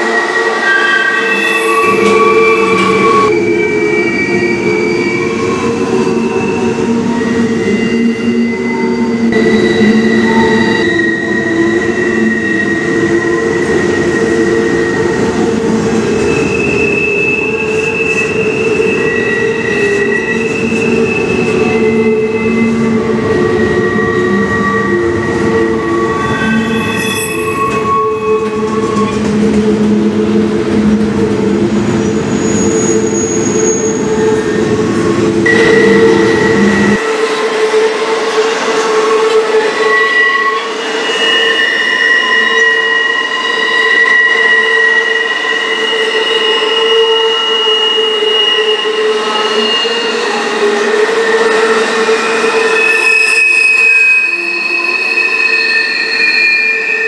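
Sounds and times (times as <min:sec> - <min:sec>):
freight train rumbling on rails: 0:00.0 - 0:57.0
wheels squealing: 0:00.3 - 0:30.1, 0:31.9 - 0:37.0, 0:38.8 - 0:57.0.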